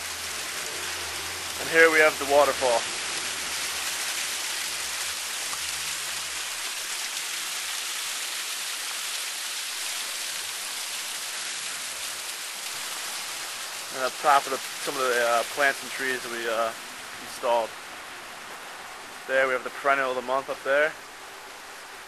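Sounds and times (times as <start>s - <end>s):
waterfall splashing over rocks: 0.0s - 22.0s.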